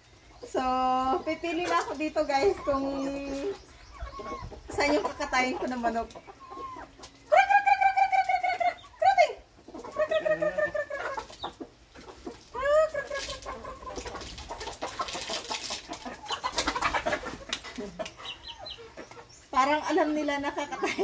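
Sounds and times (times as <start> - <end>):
chickens squawking: 0.0 - 21.0.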